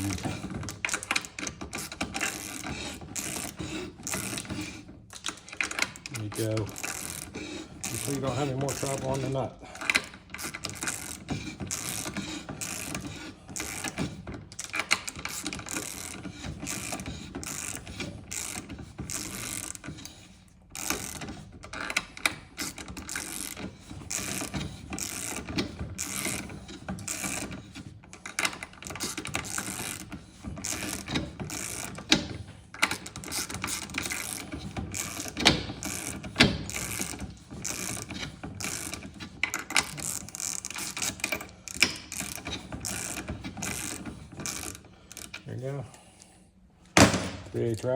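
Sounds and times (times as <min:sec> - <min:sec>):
ratchet clicking: 0:00.0 - 0:45.4.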